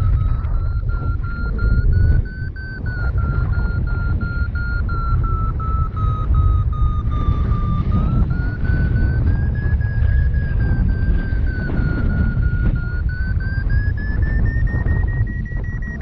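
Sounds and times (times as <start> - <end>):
variometer beeping tone: 0.0 - 16.0
wind rushing over microphone: 0.0 - 16.0.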